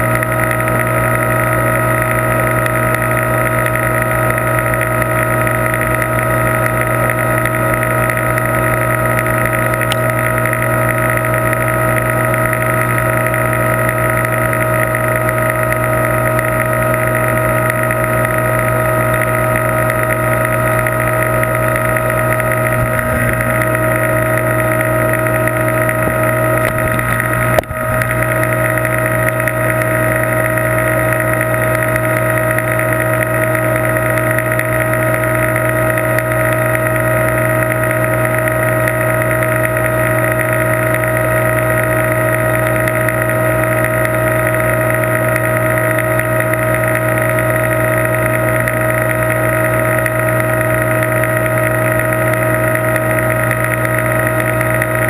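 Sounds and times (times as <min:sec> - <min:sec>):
aquarium pump humming: 0:00.0 - 0:55.0.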